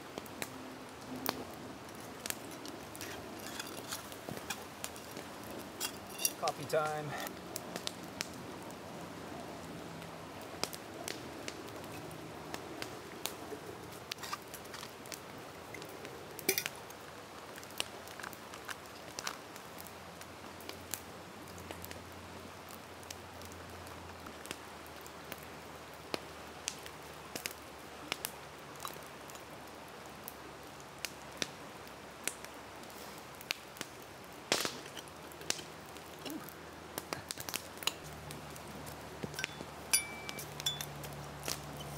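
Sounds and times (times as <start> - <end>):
campfire crackling: 0.0 - 41.9.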